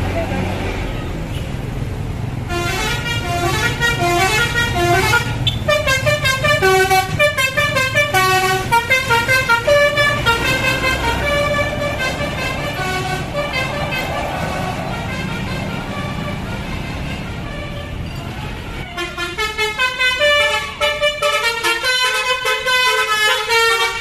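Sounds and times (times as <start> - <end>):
bus engine rumble: 0.0 - 24.0
multi-tone air horn tune: 2.5 - 24.0.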